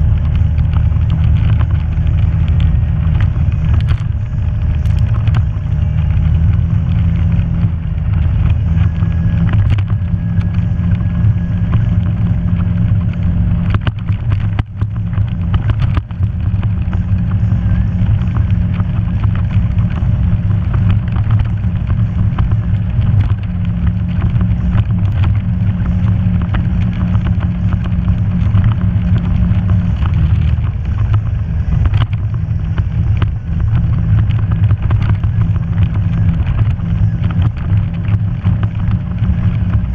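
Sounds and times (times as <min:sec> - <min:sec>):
knocks and rattles: 0:00.0 - 0:39.9
off-road vehicle engine droning: 0:00.0 - 0:39.9.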